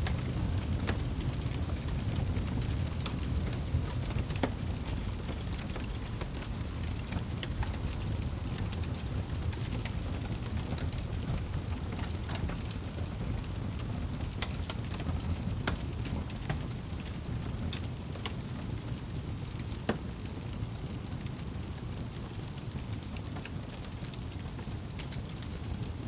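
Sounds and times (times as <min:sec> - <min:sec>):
fire snaps and pops: 0:00.0 - 0:26.0
low rumble of burning logs: 0:00.0 - 0:26.0.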